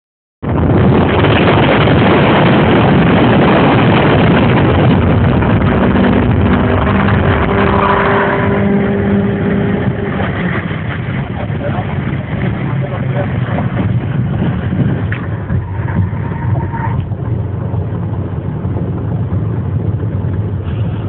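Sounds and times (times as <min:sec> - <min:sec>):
engine drone: 0:00.4 - 0:21.0
vehicle rushing noise: 0:00.4 - 0:21.0.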